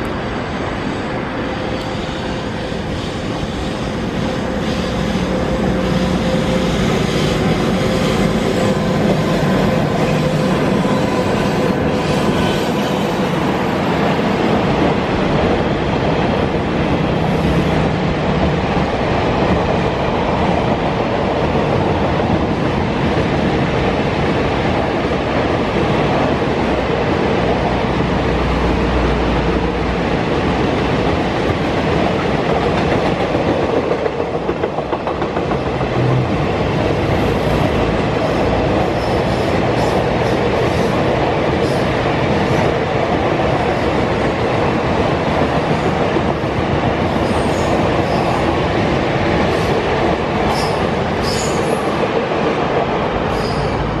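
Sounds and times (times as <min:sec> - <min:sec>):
freight wagons rumbling on rails: 0:00.0 - 0:54.0.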